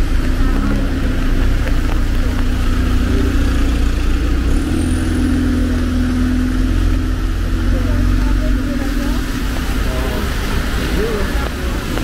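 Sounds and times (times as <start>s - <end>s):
low traffic rumble and hiss: 0.0s - 12.0s
vehicle engine running: 0.0s - 12.0s.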